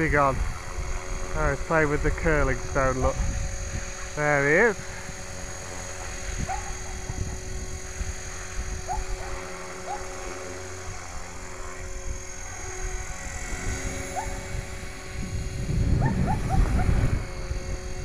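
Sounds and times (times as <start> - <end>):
wind buffeting microphone: 0.0 - 9.4, 10.8 - 18.0
model helicopter motor whine: 0.0 - 18.0.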